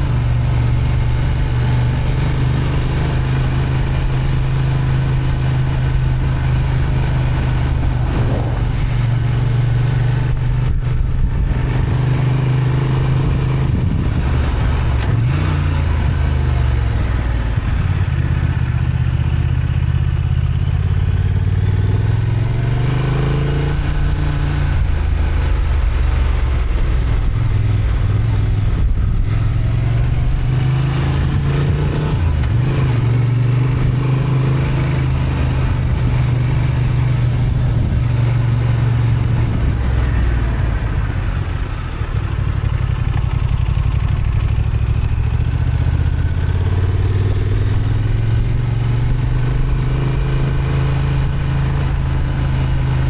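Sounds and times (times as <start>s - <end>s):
motorcycle engine under load: 0.0s - 53.0s
road and wind noise: 0.0s - 53.0s.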